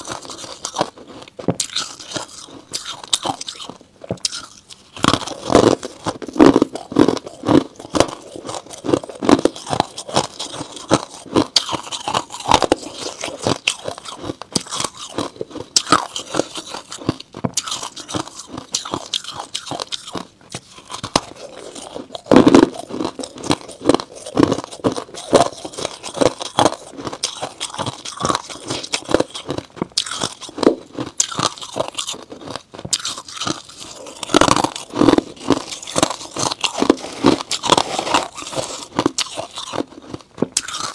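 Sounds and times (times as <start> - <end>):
frost crunching being chewed: 0.0 - 40.9.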